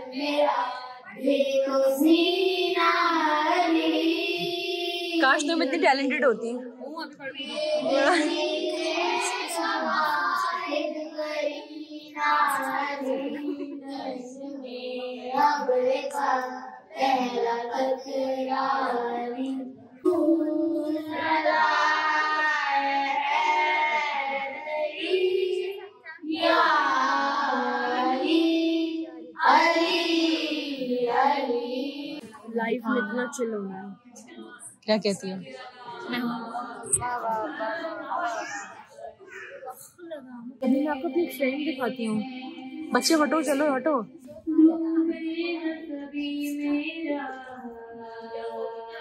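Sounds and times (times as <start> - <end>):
children singing into a microphone: 0.0 - 5.6, 7.2 - 33.4, 35.4 - 40.0, 40.6 - 43.2, 44.2 - 49.0.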